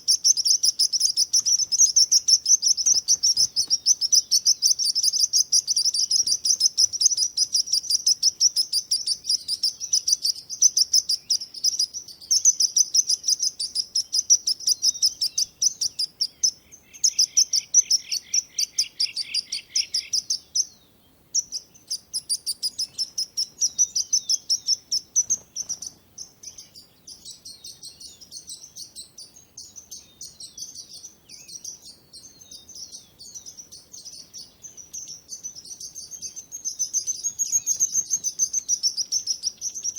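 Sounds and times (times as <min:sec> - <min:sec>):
low bird trill: 0:00.0 - 0:39.9
small birds chirping: 0:00.0 - 0:39.9.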